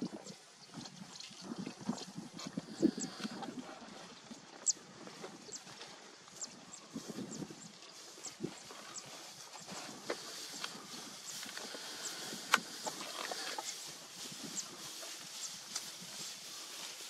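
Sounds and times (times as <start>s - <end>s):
grass rustling and crunching: 0.1s - 17.0s.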